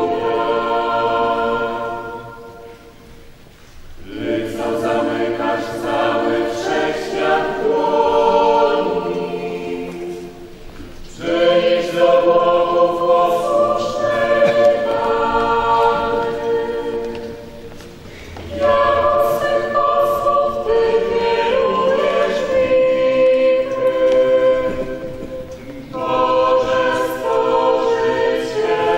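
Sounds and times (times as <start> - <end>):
group singing a hymn: 0.0 - 28.9.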